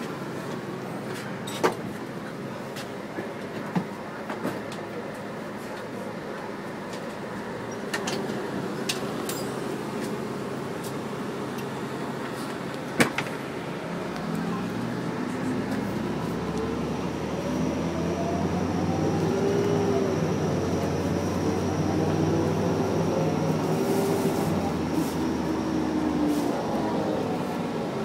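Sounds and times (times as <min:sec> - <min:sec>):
bus engine low rumble: 0:00.0 - 0:28.0.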